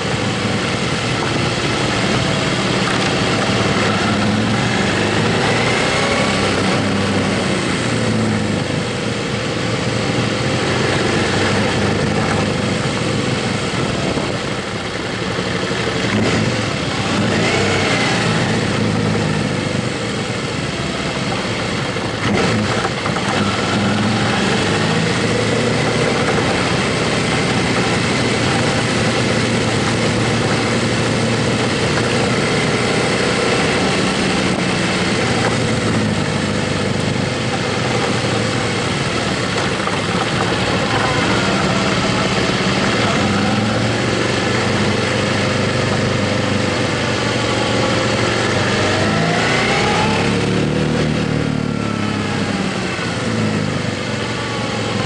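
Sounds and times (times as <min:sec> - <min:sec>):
motorcycle engine running: 0:00.0 - 0:55.0
rushing noise: 0:00.0 - 0:55.0.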